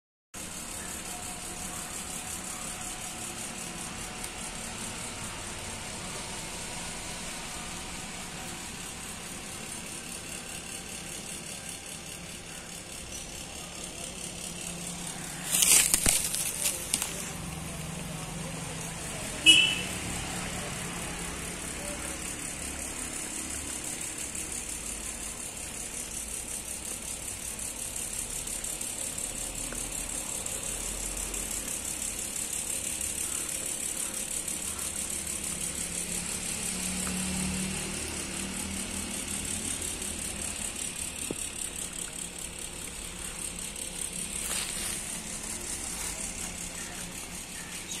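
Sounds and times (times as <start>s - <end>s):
cicadas buzzing: 0.4s - 48.0s
road traffic rumble: 0.4s - 48.0s.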